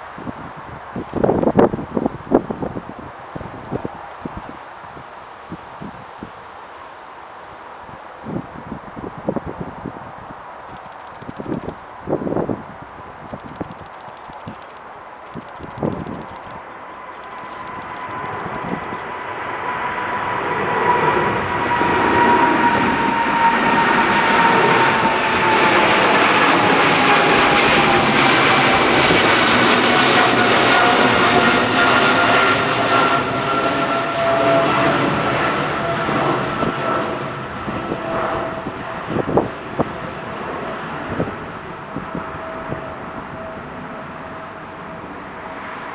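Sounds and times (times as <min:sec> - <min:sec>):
high jet engine whine: 0:00.0 - 0:45.9
jet airliner rumble overhead: 0:00.0 - 0:45.9.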